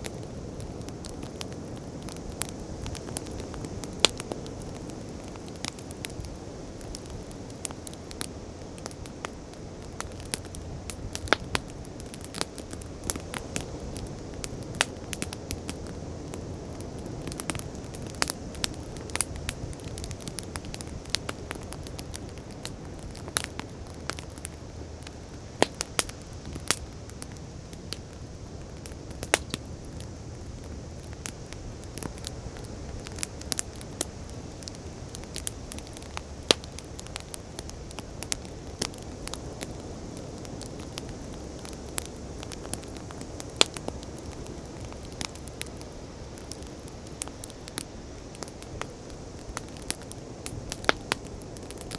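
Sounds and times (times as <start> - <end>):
bonfire crackling and popping: 0.0 - 51.9.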